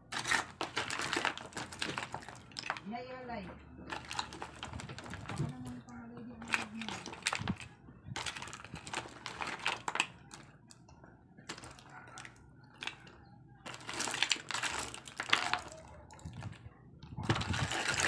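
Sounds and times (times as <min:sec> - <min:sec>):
shells clattering in plastic basin: 0:00.0 - 0:02.9, 0:03.9 - 0:10.8, 0:11.5 - 0:16.6, 0:17.2 - 0:18.0.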